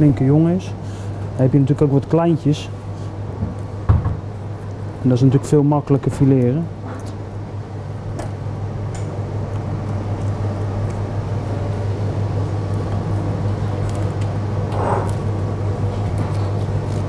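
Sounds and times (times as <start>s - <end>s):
kitchen equipment humming: 0.0s - 17.0s.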